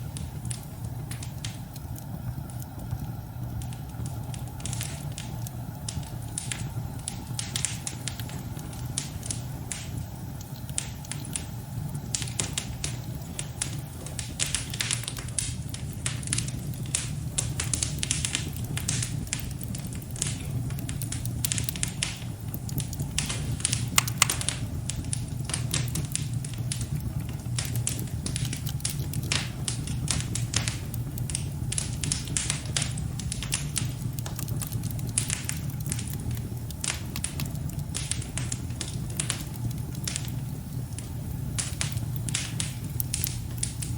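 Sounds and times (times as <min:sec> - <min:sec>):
fire crackling and popping: 0:00.0 - 0:43.9
steady low rumble: 0:00.0 - 0:43.9.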